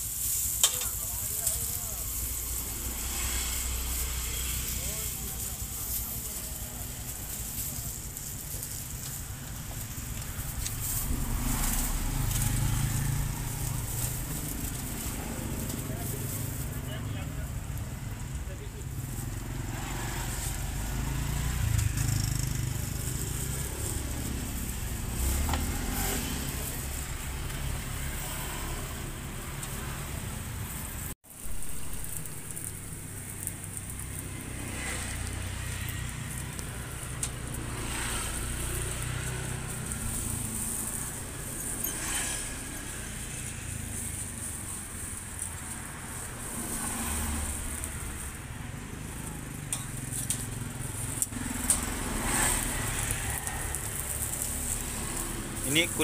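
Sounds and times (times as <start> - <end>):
food sizzling on a griddle: 0.0 - 56.0
low rumble of street traffic: 0.0 - 56.0.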